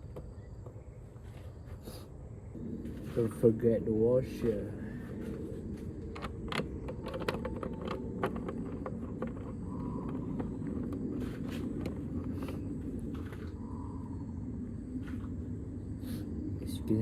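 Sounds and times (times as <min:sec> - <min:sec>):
low rumble: 0:02.3 - 0:16.9.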